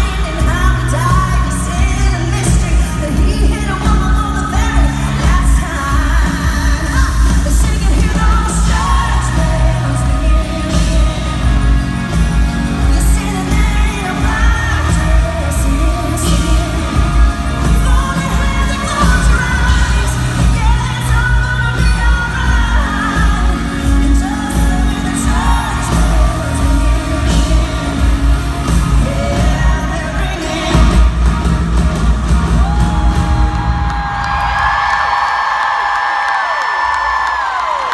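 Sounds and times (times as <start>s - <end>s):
woman singing: 0.0s - 31.2s
pulsing drum and bass beat: 0.0s - 34.2s
live country-pop band: 0.0s - 37.9s.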